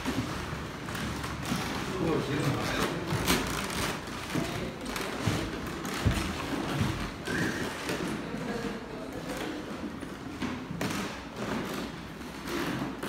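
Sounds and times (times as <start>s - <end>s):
footsteps on hardwood floor: 0.0s - 13.0s.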